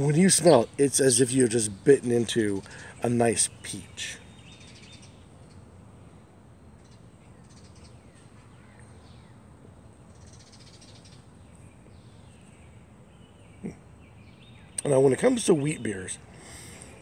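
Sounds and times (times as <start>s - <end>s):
faint bird chirps: 0.0s - 17.0s
low steady hum: 0.0s - 17.0s.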